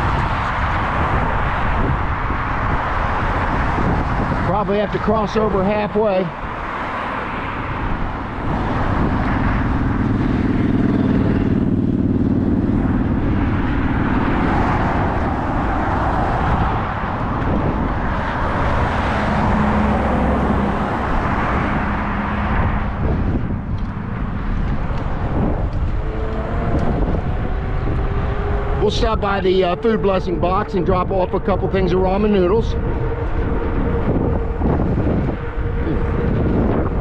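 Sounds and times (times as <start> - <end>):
cars passing: 0.0 - 37.0
wind and road noise: 0.0 - 37.0.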